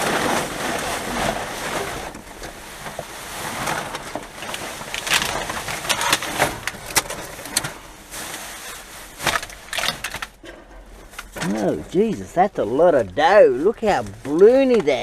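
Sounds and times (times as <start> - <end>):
plastic garbage bags rustling: 0.0 - 15.0
plastic packaging crackling: 0.0 - 15.0.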